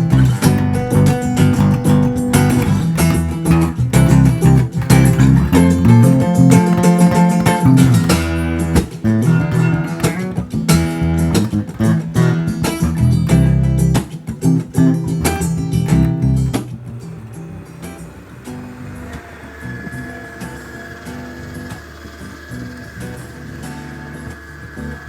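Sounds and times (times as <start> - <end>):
low bass line: 0.0 - 20.3
plucked and strummed guitar: 0.0 - 25.0.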